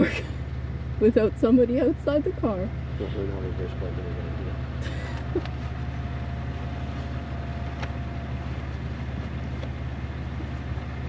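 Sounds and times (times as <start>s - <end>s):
car engine hum from cabin: 0.0s - 11.0s.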